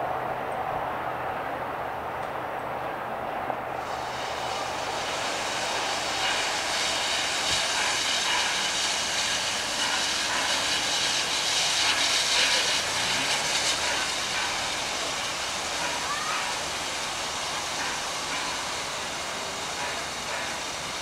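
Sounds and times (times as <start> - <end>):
steam hissing from locomotive: 3.8 - 21.0.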